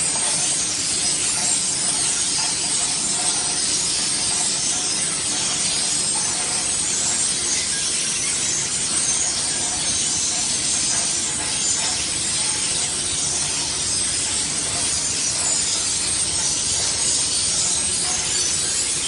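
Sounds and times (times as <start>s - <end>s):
machinery rushing noise: 0.0s - 19.0s.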